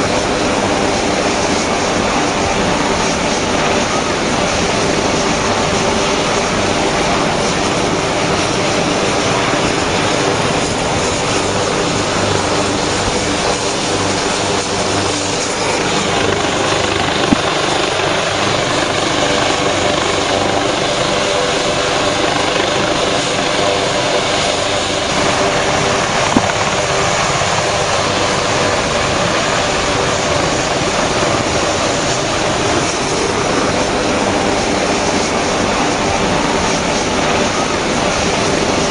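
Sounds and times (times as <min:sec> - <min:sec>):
helicopter engines and rotor: 0:00.0 - 0:38.9.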